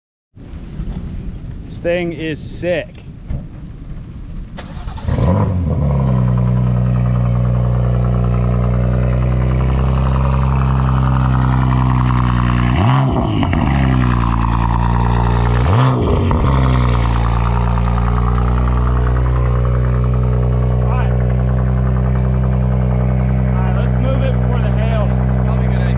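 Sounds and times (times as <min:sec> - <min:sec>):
engine throttle blips: 0:02.9 - 0:25.9
car engine starting and idling: 0:03.1 - 0:25.9.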